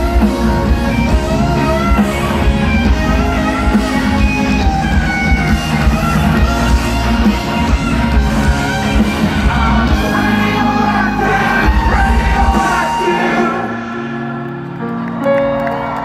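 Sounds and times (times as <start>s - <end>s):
crowd singing and shouting: 0.0s - 15.0s
live rock band playing: 0.0s - 16.0s.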